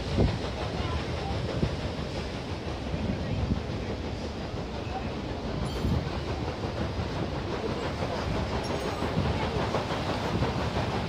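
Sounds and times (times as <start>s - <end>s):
steam engine and paddle wheels: 0.0s - 11.0s.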